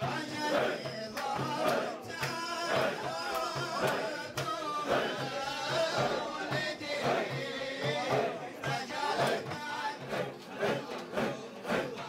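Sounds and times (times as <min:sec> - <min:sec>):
frame drum beaten steadily: 0:00.0 - 0:12.0
men chanting together: 0:00.0 - 0:12.0.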